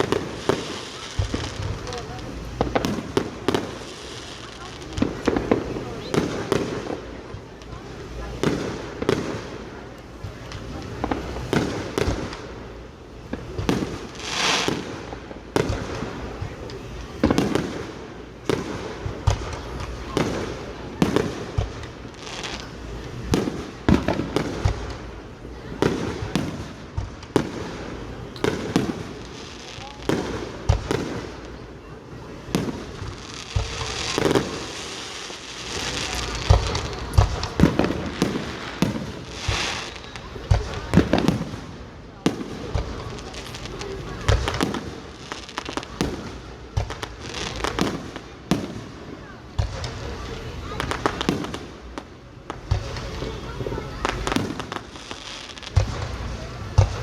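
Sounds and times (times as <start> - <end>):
firework hissing: 0.0 - 57.0
fireworks bangs: 0.0 - 57.0.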